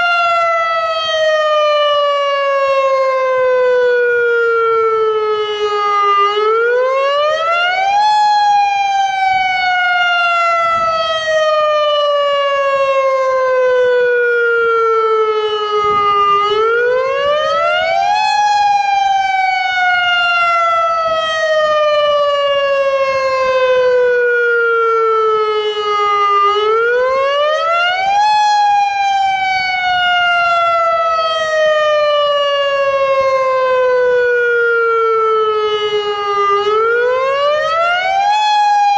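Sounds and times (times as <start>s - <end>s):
warning siren wailing: 0.0s - 38.9s.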